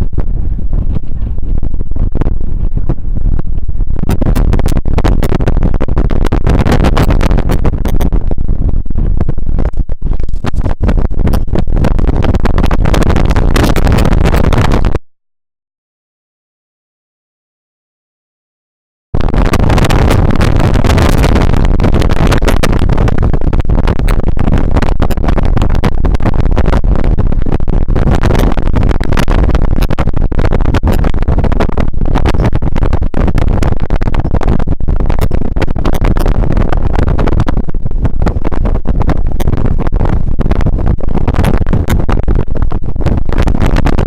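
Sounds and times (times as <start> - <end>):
wind buffeting microphone: 0.0 - 15.0, 19.2 - 44.0.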